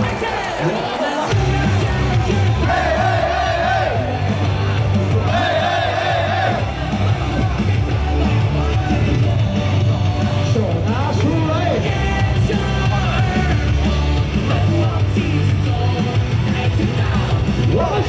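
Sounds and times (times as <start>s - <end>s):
loud music with heavy bass: 0.0s - 18.0s
voices singing and yelling: 0.0s - 18.0s.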